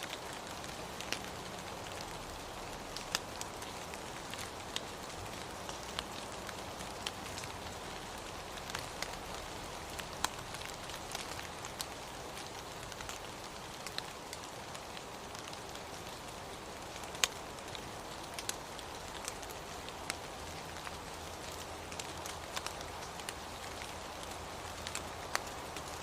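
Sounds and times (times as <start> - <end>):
raindrops ticking: 0.0 - 26.0
steady rain hiss: 0.0 - 26.0.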